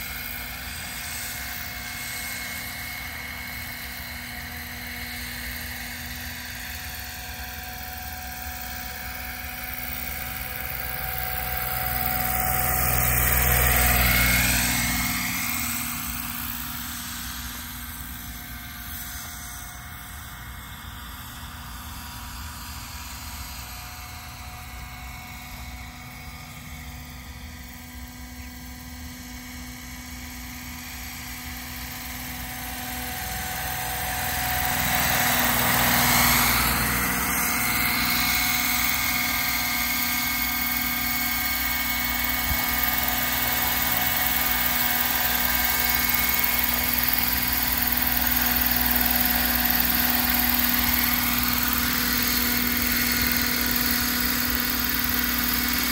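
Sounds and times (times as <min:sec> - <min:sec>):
rc helicopter whine: 0:00.0 - 0:55.9.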